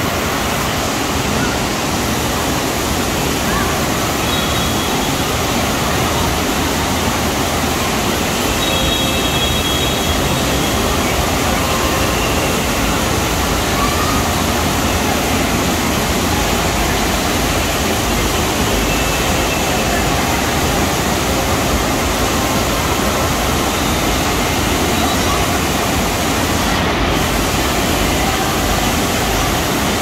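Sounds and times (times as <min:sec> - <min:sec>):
wave machine water rushing: 0:00.0 - 0:30.0.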